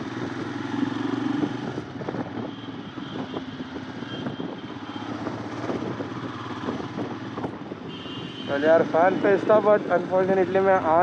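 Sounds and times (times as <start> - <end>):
motorcycle engine running: 0.0 - 8.9
road and wind noise: 0.0 - 11.0.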